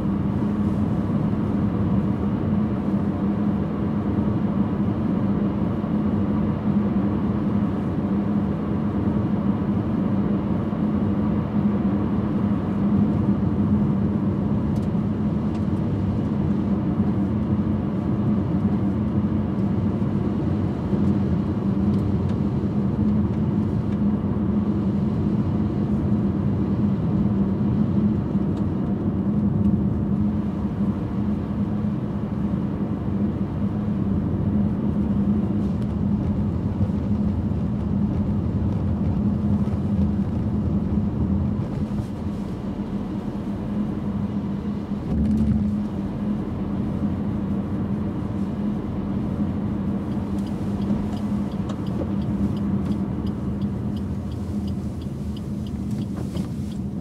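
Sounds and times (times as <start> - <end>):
car engine and tyre drone: 0.0 - 57.0.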